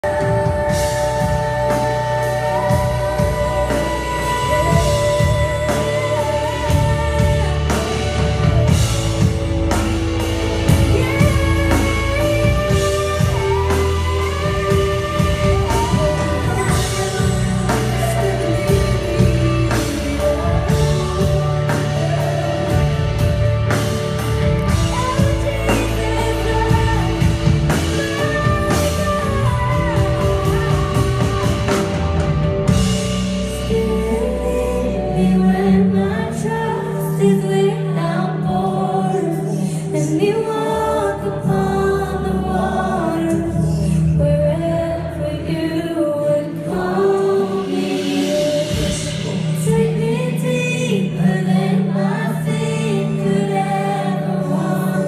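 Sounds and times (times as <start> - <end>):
people singing: 0.0 - 55.0
worship band playing: 0.0 - 55.0.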